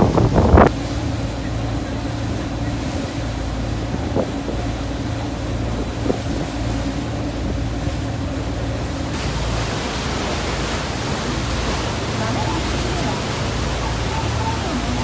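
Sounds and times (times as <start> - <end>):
boat engine drone: 0.0 - 15.0
sea rushing past hull: 0.0 - 15.0
wind buffeting microphone: 0.0 - 15.0.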